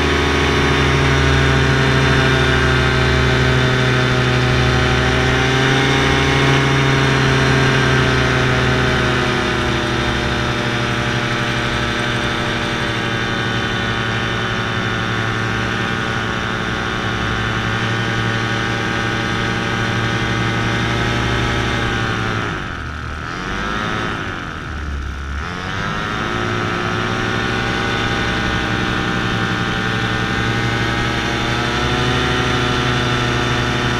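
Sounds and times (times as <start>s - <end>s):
paramotor engine and propeller: 0.0s - 33.9s.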